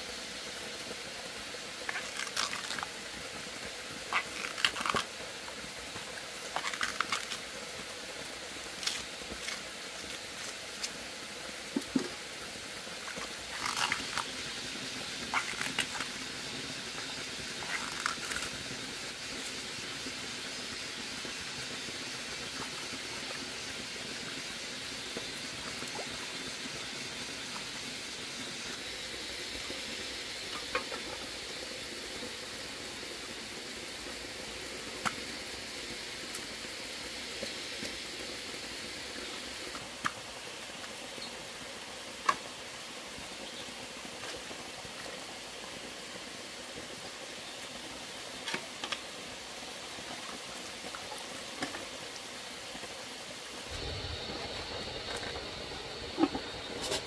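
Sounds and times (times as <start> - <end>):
stream water hissing: 0.0 - 57.0.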